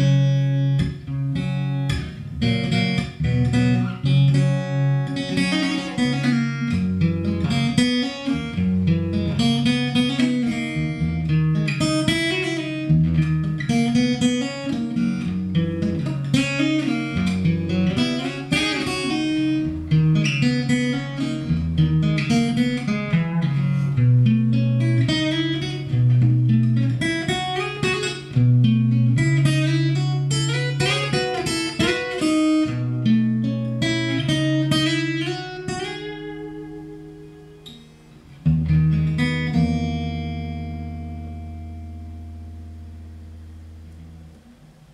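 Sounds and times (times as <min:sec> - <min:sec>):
fingerpicked acoustic guitar: 0:00.0 - 0:44.9.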